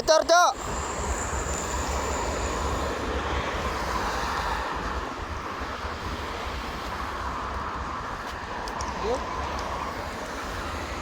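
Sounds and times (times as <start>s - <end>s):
road traffic rumble: 0.0s - 11.0s
wind buffeting microphone: 0.0s - 11.0s.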